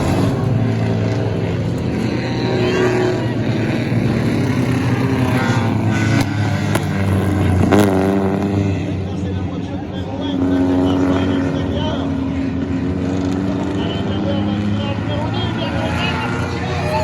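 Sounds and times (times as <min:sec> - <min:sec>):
stock car engines running: 0:00.0 - 0:17.0.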